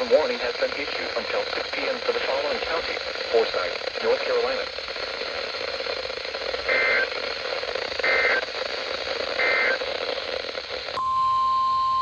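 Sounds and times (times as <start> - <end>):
radio static: 0.0 - 11.0.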